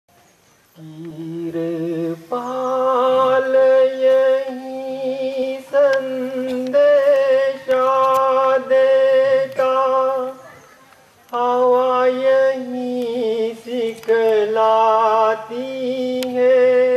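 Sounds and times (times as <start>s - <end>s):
person singing long notes: 0.8s - 10.5s, 11.3s - 16.9s.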